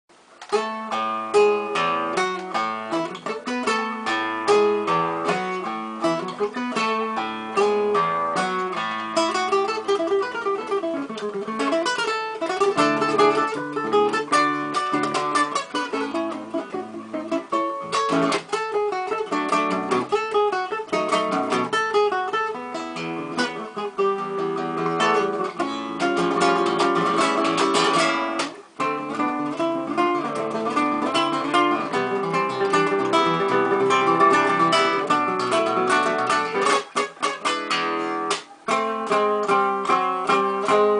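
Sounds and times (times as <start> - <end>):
plucked acoustic guitar melody: 0.2 - 40.9.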